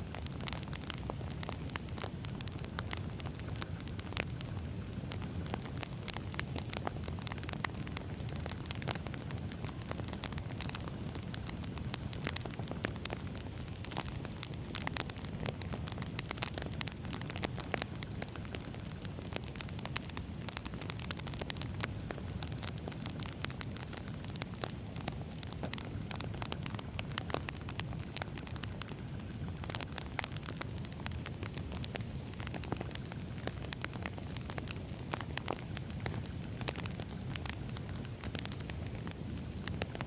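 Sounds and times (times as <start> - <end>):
logs crackling and popping: 0.0 - 40.0
wood fire rumbling: 0.0 - 40.0.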